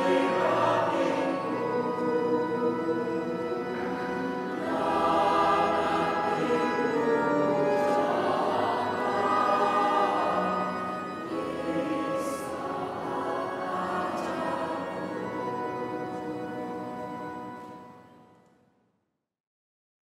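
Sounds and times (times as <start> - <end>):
mixed choir singing a hymn: 0.0 - 18.1.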